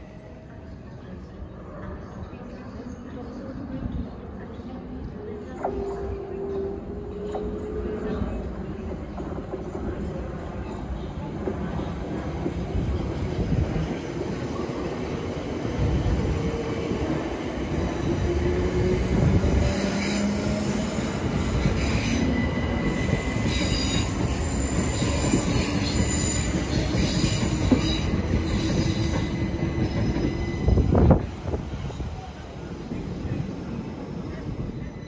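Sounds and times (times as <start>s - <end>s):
train wheels rumbling on rails: 5.2s - 35.0s.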